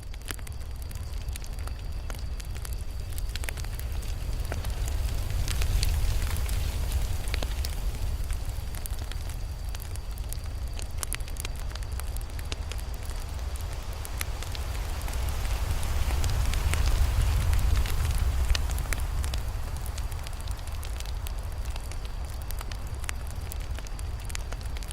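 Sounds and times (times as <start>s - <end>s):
flames rumbling: 0.0s - 24.9s
wood crackling and popping: 0.0s - 24.9s.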